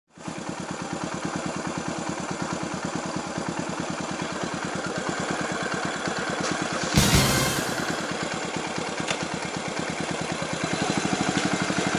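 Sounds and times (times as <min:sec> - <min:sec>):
motorcycle engine idling: 0:00.1 - 0:11.9.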